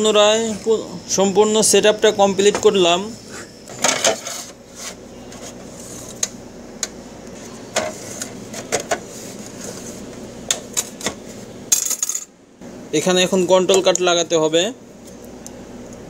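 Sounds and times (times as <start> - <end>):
steady low background noise: 0.0 - 16.0.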